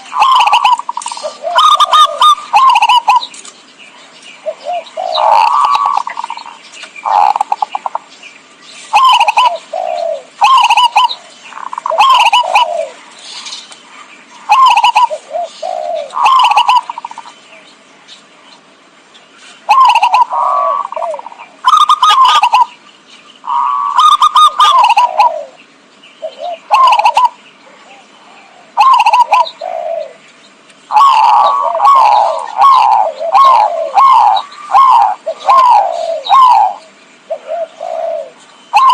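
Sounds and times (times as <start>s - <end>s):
dove cooing: 0.0s - 3.4s, 4.4s - 8.1s, 8.8s - 17.4s, 19.6s - 22.8s, 23.4s - 25.6s, 26.2s - 30.2s, 30.9s - 38.9s.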